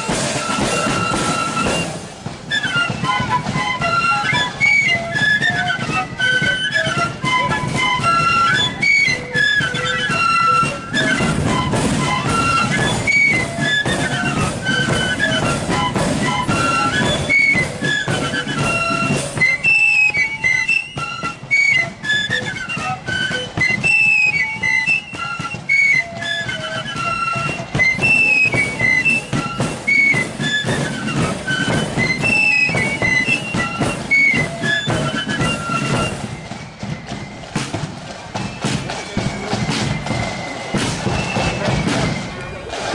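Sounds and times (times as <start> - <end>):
flute band playing in unison: 0.0 - 42.9
steady drum beat: 0.0 - 42.9.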